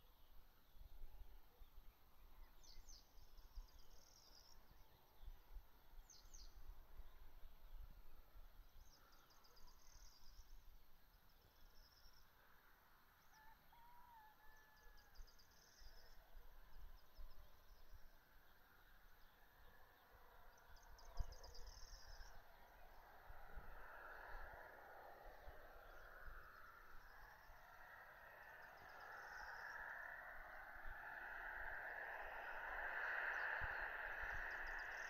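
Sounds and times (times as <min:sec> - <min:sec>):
faint low rumble: 0:00.0 - 0:35.0.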